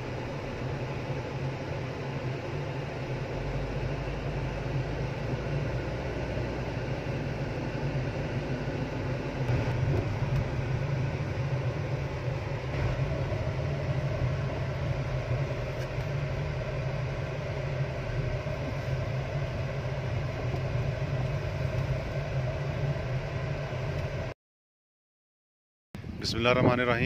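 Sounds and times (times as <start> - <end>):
car engine and tyres humming: 0.0 - 24.3.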